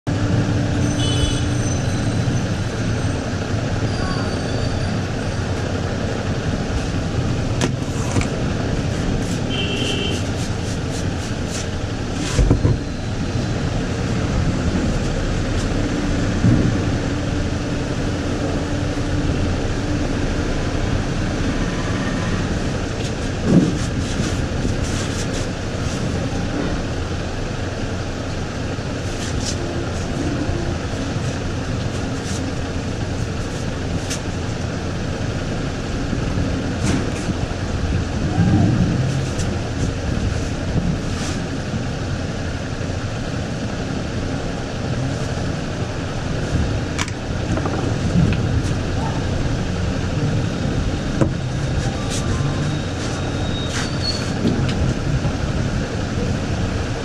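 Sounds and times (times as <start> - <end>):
steady traffic rumble: 0.0 - 57.0.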